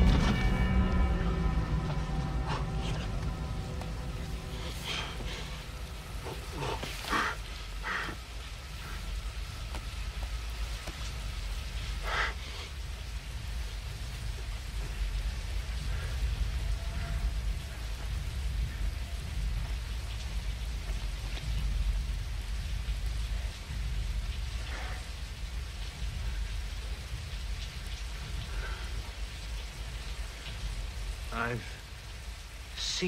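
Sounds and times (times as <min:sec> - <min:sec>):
deep low rumble: 0:00.0 - 0:32.5
steady rain falling: 0:00.0 - 0:33.0.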